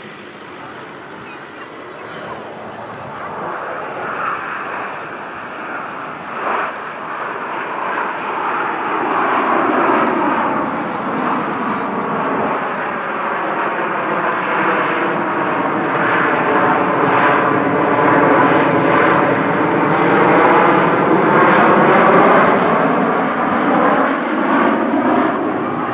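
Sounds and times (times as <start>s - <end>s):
jet engines roaring overhead: 0.0s - 25.9s.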